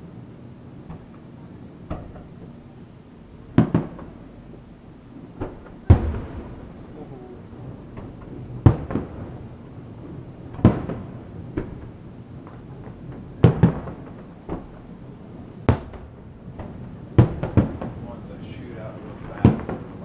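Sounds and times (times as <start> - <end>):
fireworks booming: 0.8 - 20.0.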